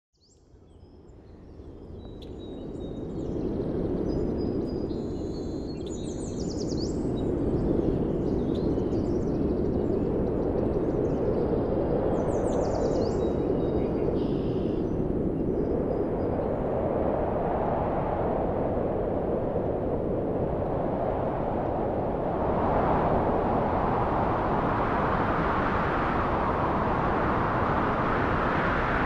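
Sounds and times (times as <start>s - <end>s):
wind-like rushing: 2.6s - 29.0s.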